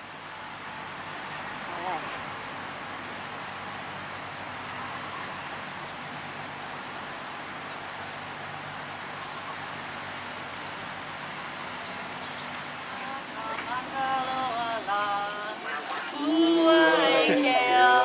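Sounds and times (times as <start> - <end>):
outdoor rushing hiss: 0.0 - 18.0.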